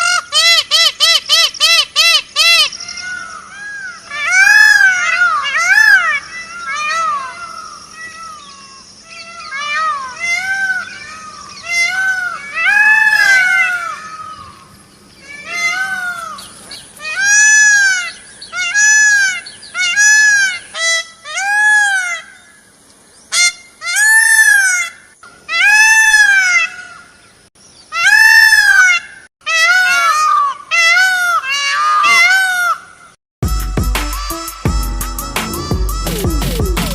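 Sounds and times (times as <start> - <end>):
peafowl calling: 0.0 - 22.6, 23.3 - 27.2, 27.9 - 36.9.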